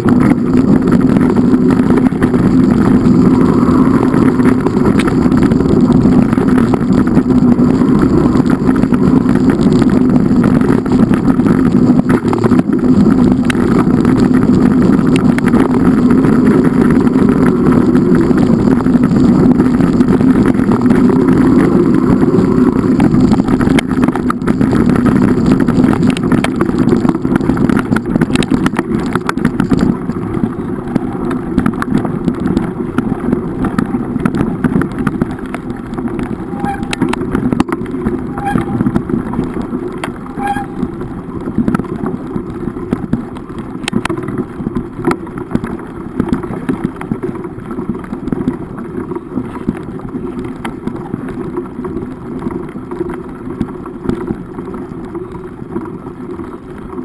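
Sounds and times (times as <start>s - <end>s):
engine running loudly: 0.0s - 57.0s.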